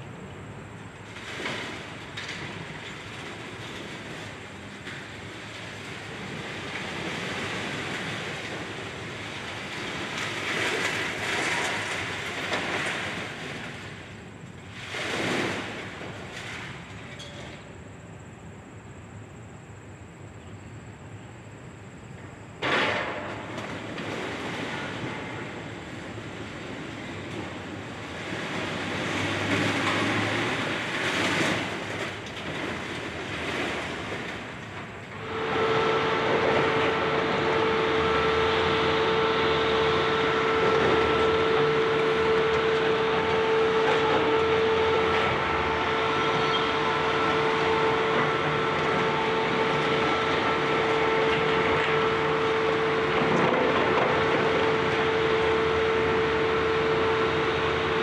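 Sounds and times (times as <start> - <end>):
excavators working: 0.0 - 18.8, 21.0 - 58.0
constant machine whine: 0.0 - 58.0.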